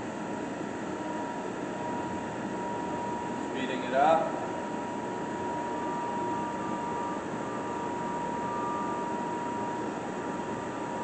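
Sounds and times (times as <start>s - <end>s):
steady whine: 0.0s - 11.0s
lathe mechanical whir: 0.1s - 11.0s.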